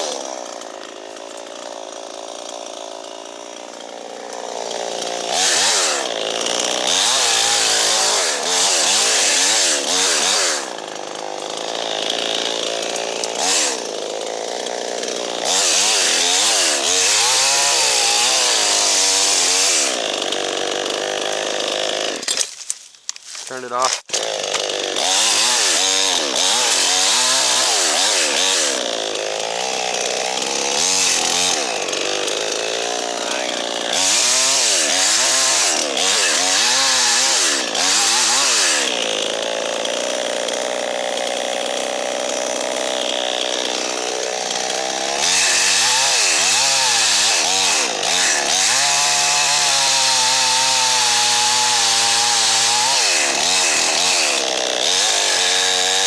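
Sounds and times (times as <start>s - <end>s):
chainsaw revving: 0.0s - 22.4s, 23.3s - 56.0s.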